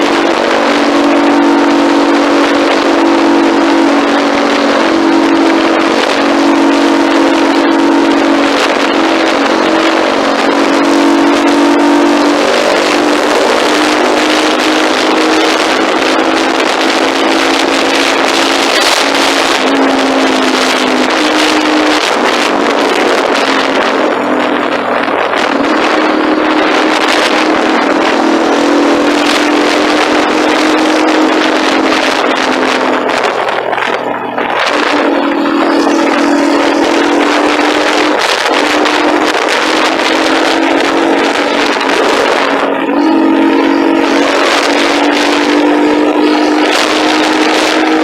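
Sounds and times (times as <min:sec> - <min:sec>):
engine droning: 0:00.0 - 0:48.0.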